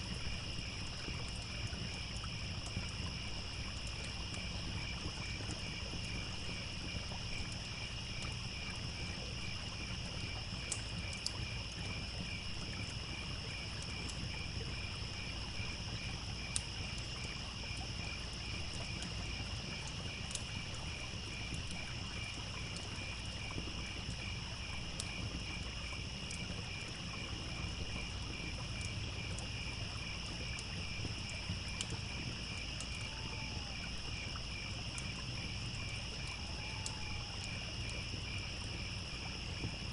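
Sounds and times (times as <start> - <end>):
campfire popping and crackling: 0.0 - 39.9
crickets chirping: 0.0 - 39.9
trickling stream: 0.0 - 39.9.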